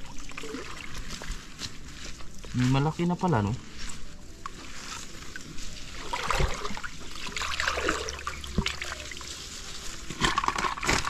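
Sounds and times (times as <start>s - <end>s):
water trickling and sloshing: 0.0s - 11.0s.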